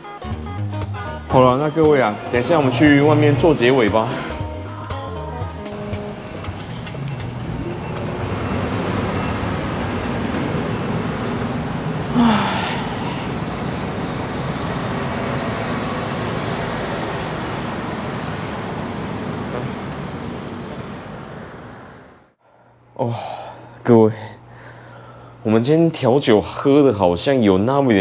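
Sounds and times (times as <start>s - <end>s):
street traffic: 0.0s - 22.9s.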